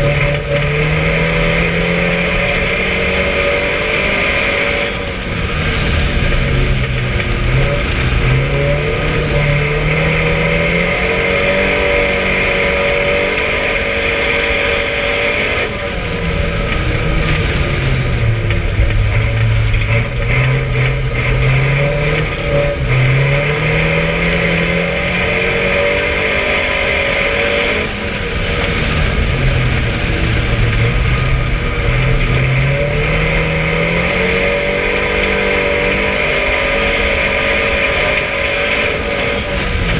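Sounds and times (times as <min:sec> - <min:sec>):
race car engine accelerating: 0:00.0 - 0:39.9
road and tyre noise: 0:00.0 - 0:39.9.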